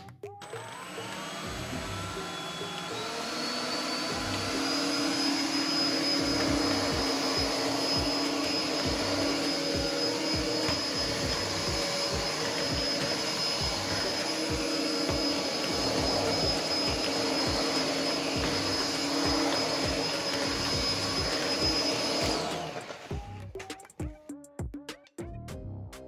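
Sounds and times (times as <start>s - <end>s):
vacuum cleaner motor whine: 0.4s - 23.2s.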